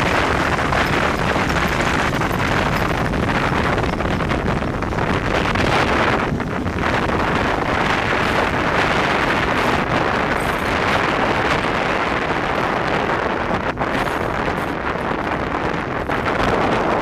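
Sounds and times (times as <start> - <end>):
train running noise: 0.0 - 17.0
wind buffeting microphone: 0.0 - 17.0.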